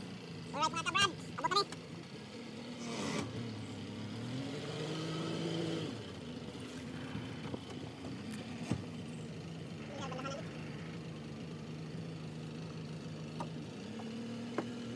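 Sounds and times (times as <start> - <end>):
motorboat engine: 0.0 - 14.9.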